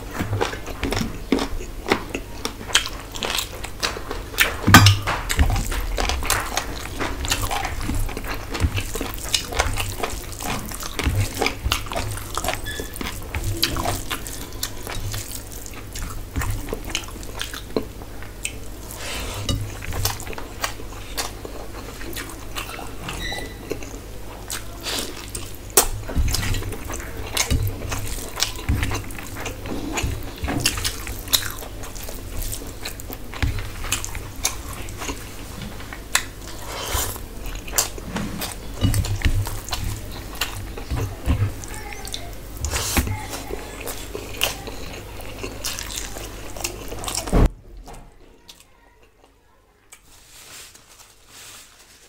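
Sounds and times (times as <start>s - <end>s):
person chewing with wet smacks: 0.0s - 47.5s.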